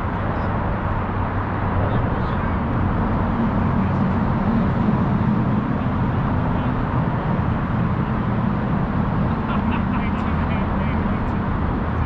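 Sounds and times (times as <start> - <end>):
road traffic rumble on bridge: 0.0 - 12.0.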